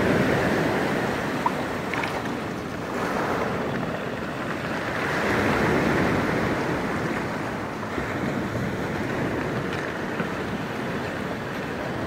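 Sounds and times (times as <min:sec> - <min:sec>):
surf washing onto pebbles: 0:00.0 - 0:12.0
wind buffeting microphone: 0:00.0 - 0:12.0.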